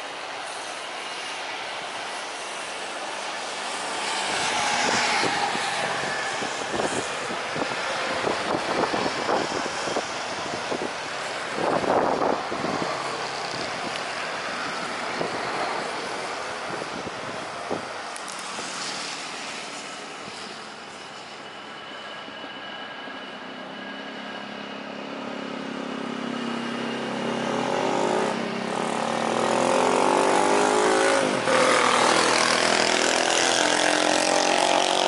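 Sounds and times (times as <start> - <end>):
jet engines at takeoff power: 0.0 - 35.0.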